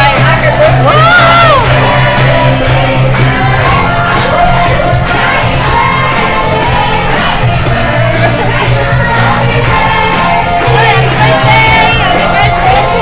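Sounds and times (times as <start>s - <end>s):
crowd voices: 0.0s - 13.0s
loud music with singing: 0.0s - 13.0s.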